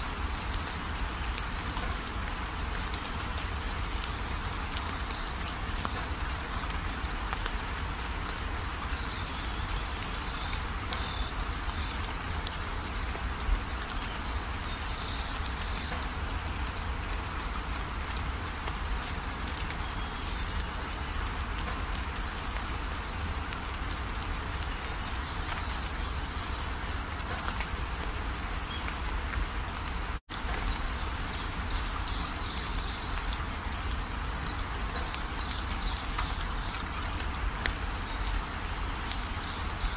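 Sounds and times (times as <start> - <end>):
pot boiling with bubbling hiss: 0.0 - 39.9.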